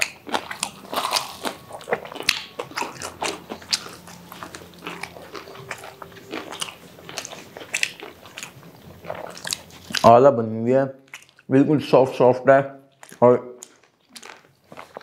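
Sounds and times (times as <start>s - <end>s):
chewing crispy fried chicken: 0.0s - 12.0s, 12.8s - 15.0s.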